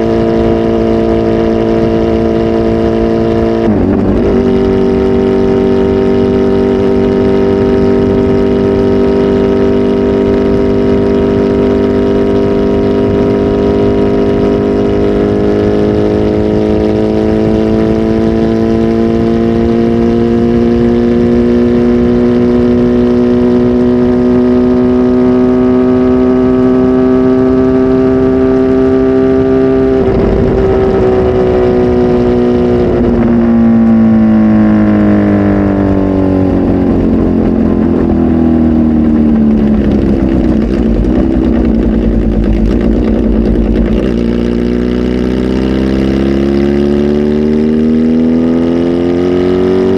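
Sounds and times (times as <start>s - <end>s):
motorcycle engine running loud: 0.0s - 49.9s.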